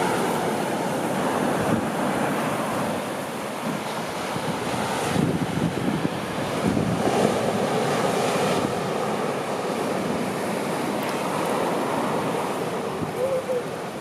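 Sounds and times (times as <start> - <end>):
surf breaking on beach: 0.0 - 14.0.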